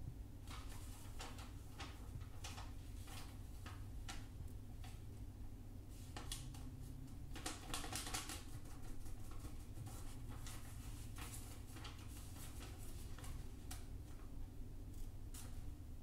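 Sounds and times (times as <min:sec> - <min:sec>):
faint low hum: 0:00.0 - 0:16.0
paper rustling and crinkling: 0:00.4 - 0:05.0, 0:05.9 - 0:14.3, 0:14.9 - 0:15.7.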